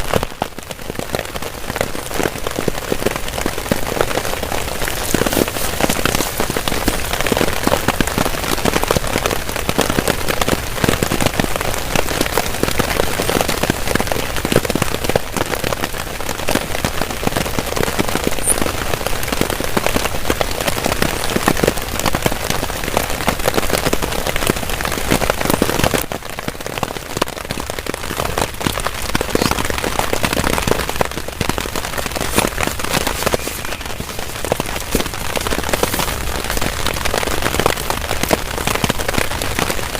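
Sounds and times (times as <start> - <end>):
heavy rain on a tarp: 0.0 - 39.9.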